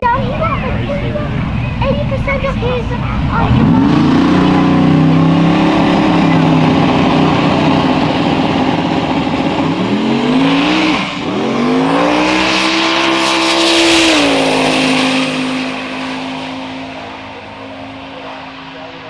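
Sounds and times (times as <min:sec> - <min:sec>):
drag racing car accelerating: 0:00.0 - 0:19.0.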